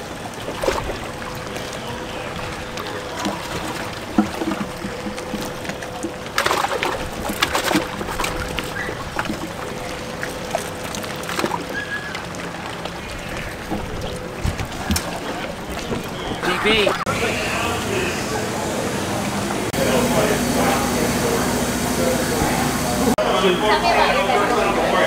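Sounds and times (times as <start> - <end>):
water splashing and sloshing: 0.0 - 23.2.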